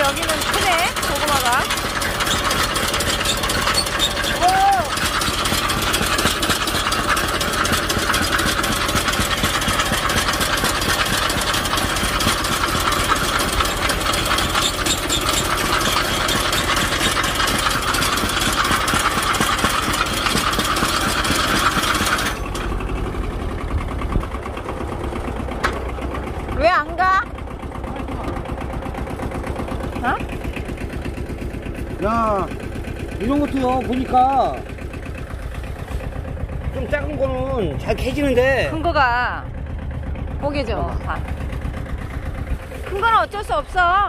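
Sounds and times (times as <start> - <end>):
plow blade cutting soil: 0.0 - 39.1, 39.8 - 44.0
engine running under load: 0.0 - 44.0.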